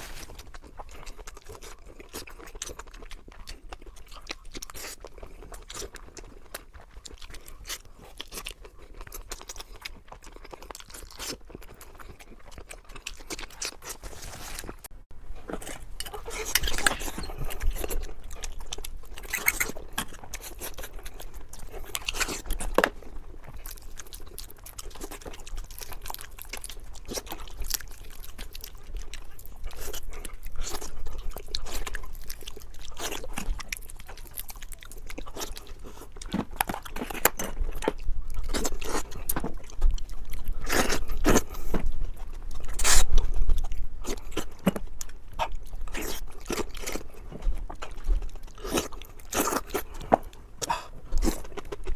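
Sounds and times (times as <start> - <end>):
chewing and crunching: 0.0 - 51.9.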